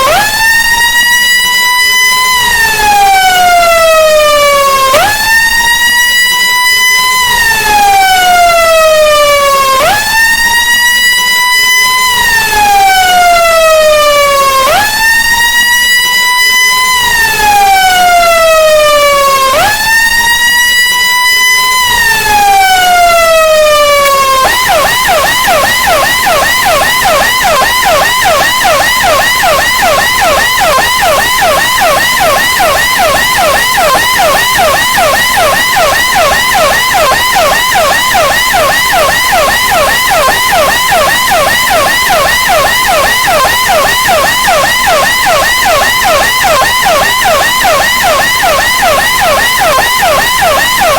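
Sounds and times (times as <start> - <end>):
electronic siren wailing: 0.0 - 50.9.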